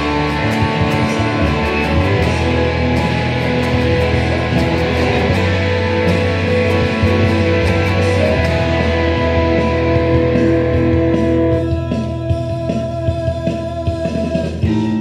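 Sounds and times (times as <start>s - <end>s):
electric guitar lead notes: 0.0s - 15.0s
low bass line: 0.0s - 15.0s.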